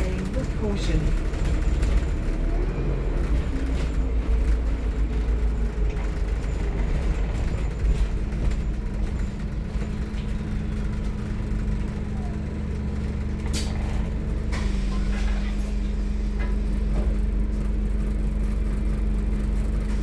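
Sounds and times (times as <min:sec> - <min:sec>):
bus engine droning: 0:00.0 - 0:20.0.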